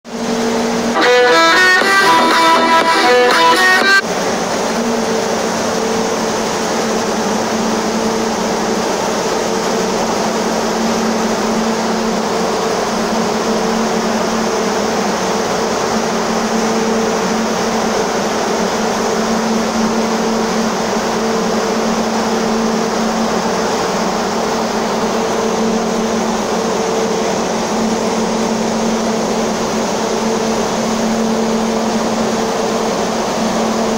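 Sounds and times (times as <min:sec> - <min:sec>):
dryer blower fan rushing: 0:00.1 - 0:33.9.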